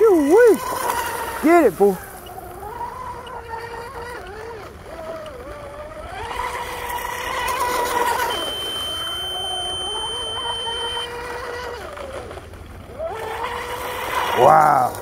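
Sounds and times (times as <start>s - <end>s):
rc boat motor whine: 0.0s - 15.0s.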